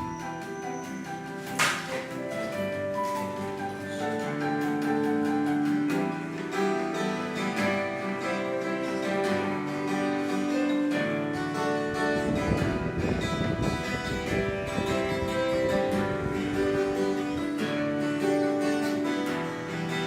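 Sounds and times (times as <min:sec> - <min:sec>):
acoustic guitar playing chords: 0:00.0 - 0:20.0.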